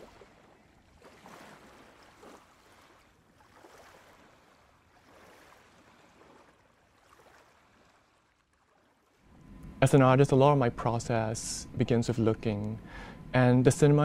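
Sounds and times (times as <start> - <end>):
sea water lapping: 0.0 - 13.5.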